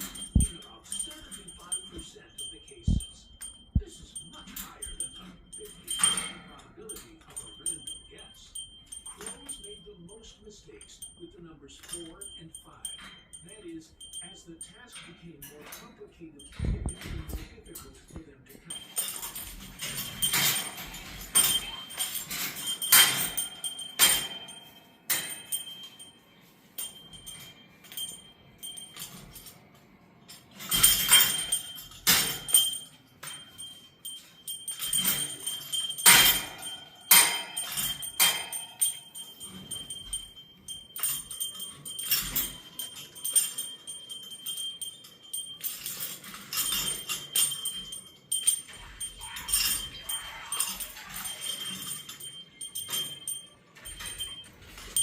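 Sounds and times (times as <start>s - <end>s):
small metal bell jingling: 0.0s - 55.0s.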